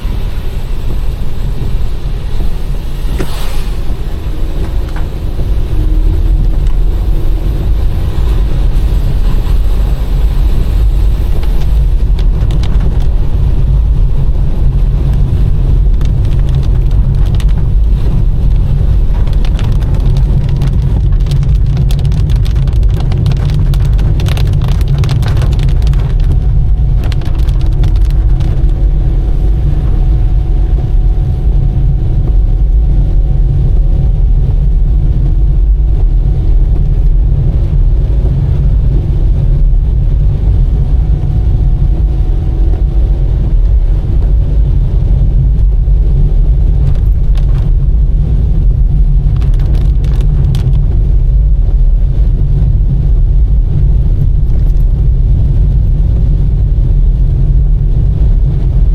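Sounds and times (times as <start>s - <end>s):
car engine and road noise: 0.0s - 58.9s.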